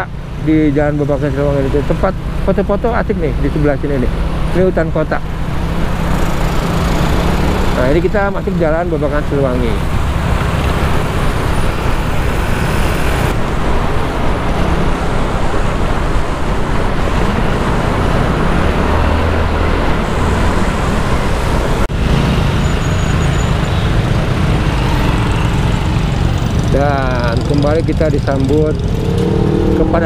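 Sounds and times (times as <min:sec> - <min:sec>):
surrounding traffic: 0:00.0 - 0:30.0.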